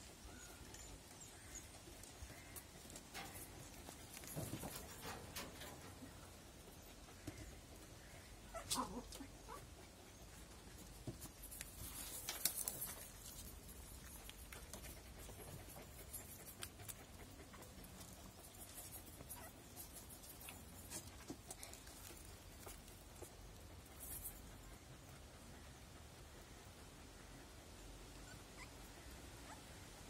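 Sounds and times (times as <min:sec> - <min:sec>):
rustle: 0:00.0 - 0:30.0.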